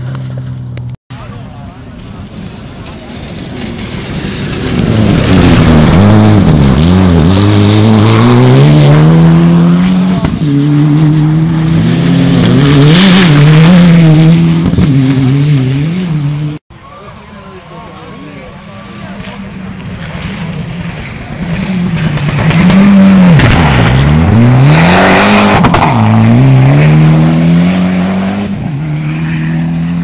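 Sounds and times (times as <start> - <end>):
rally car engine at full throttle: 0.0 - 16.6, 18.4 - 30.0.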